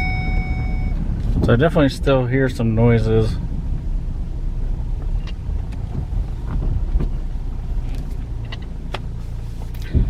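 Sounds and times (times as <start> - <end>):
road and engine rumble: 0.0 - 10.0.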